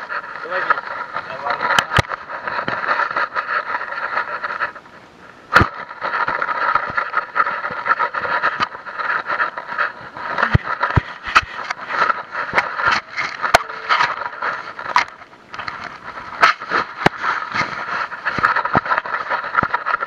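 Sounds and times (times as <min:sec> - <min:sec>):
camera rubbing and scraping: 0:00.0 - 0:20.0.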